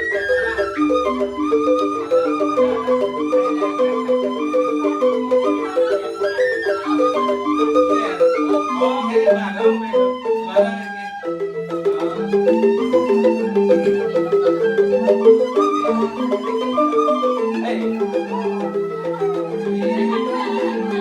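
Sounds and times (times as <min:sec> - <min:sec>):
bamboo xylophones playing: 0:00.0 - 0:21.0
high gliding melody: 0:00.0 - 0:21.0.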